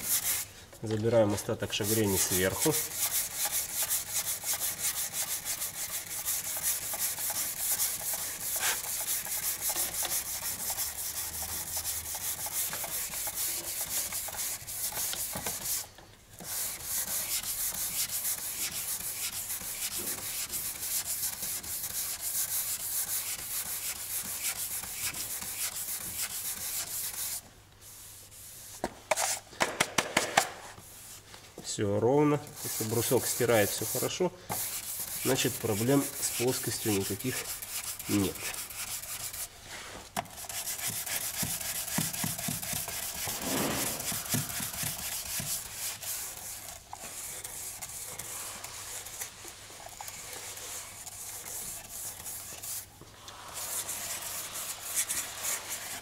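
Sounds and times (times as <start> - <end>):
hand sanding strokes: 0.0 - 0.5, 1.4 - 29.4, 32.2 - 56.0.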